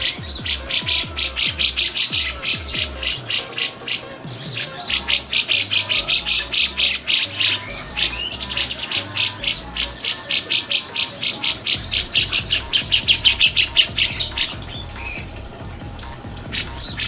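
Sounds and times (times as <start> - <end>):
bulbul singing sharp high notes: 0.0 - 17.0.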